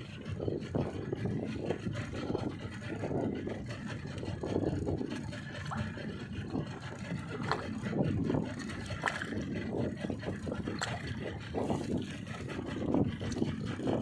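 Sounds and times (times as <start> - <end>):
water splashing against boat: 0.0 - 14.0
wind on microphone: 0.0 - 14.0.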